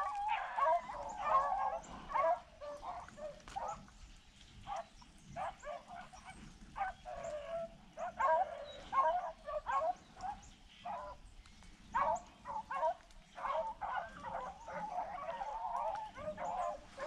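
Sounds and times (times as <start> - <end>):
hounds baying and yelping: 0.0 - 4.0, 4.6 - 17.0.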